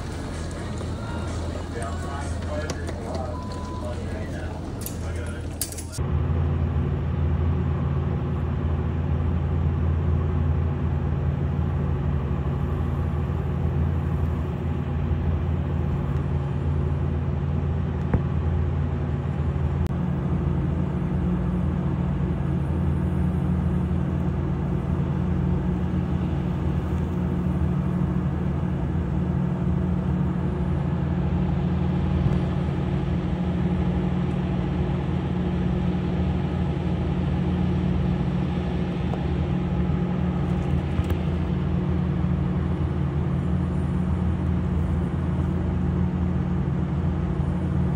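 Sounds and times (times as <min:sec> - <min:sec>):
low steady engine hum: 0:00.0 - 0:47.9.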